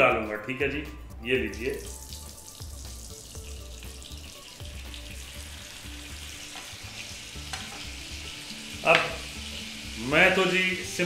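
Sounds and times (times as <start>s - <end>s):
ghee sizzling in a hot pan: 1.9s - 11.0s.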